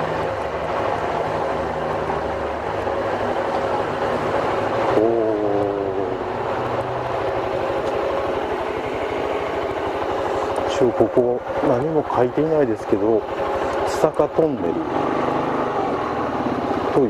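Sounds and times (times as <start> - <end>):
scooter engine running: 0.0 - 17.0
wind and road noise: 0.0 - 17.0.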